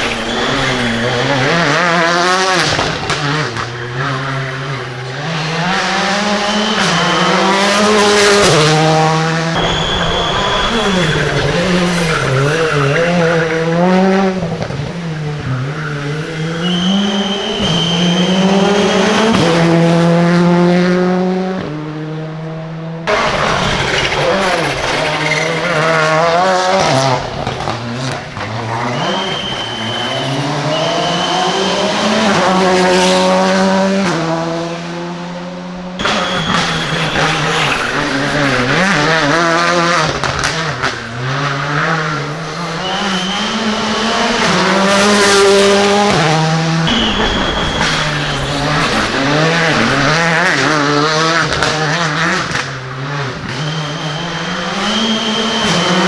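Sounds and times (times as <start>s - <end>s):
rally car engines revving high: 0.0s - 56.0s.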